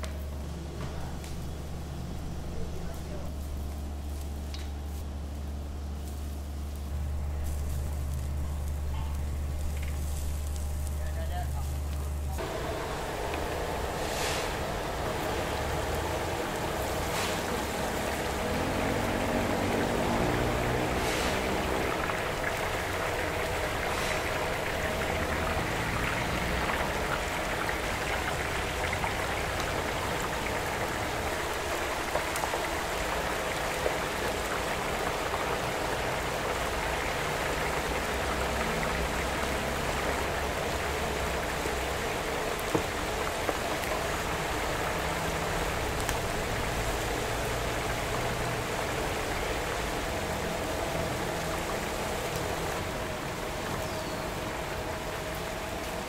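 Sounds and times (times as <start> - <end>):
hot oil sizzling and bubbling: 0.0 - 56.0.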